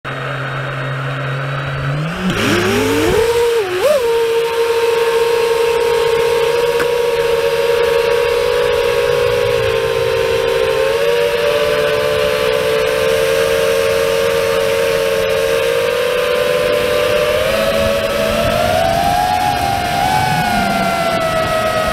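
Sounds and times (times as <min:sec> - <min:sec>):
drone motors whining: 0:00.1 - 0:21.9.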